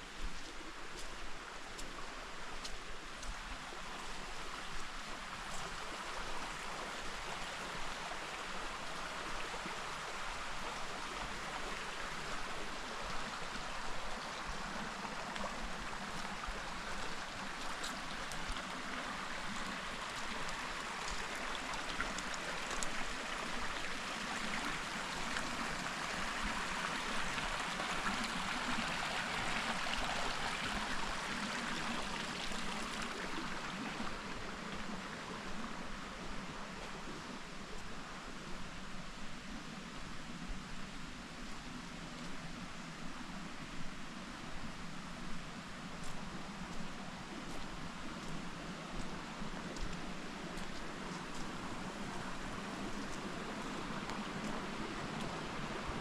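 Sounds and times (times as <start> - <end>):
creek water flowing over rocks: 0.0 - 56.0.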